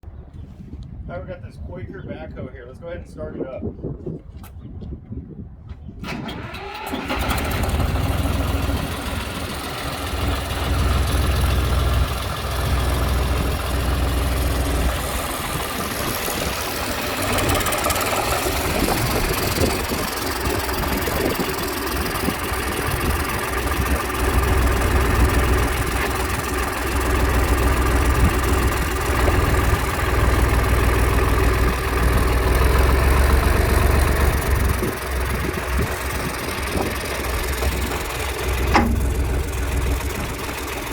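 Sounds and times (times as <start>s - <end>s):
backhoe engine starting and idling: 6.0s - 40.9s.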